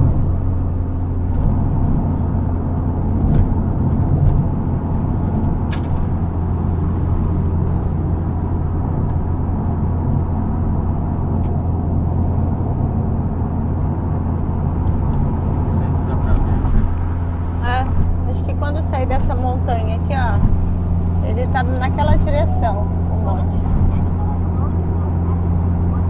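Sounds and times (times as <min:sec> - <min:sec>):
road and engine drone in car: 0:00.0 - 0:26.0.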